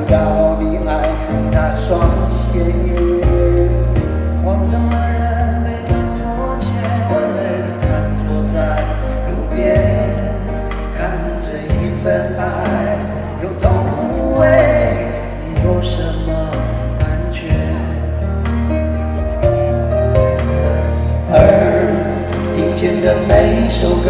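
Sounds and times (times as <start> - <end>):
man singing into a microphone: 0.0 - 18.7, 21.2 - 24.0
backing band playing pop ballad: 0.0 - 24.0.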